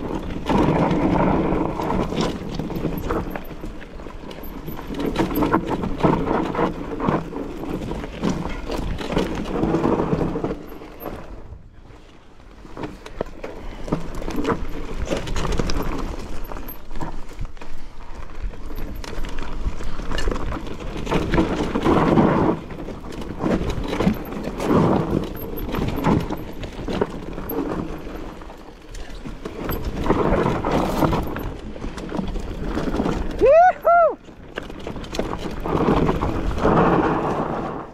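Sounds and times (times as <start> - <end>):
bike tyres and frame rattling: 0.0 - 37.9
wind rumble on microphone: 0.0 - 37.9.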